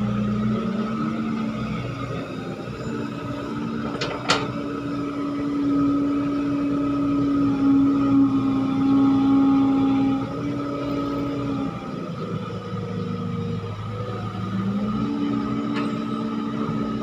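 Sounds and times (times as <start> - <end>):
heavy machinery diesel engine: 0.0 - 17.0.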